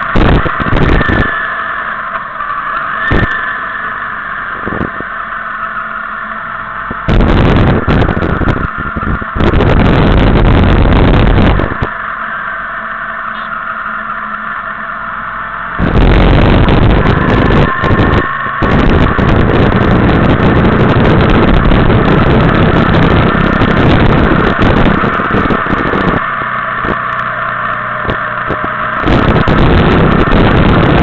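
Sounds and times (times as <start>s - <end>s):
wind buffeting microphone: 0.0s - 12.2s, 15.4s - 31.0s
motorcycle engine: 0.0s - 31.0s
road noise: 0.0s - 31.0s.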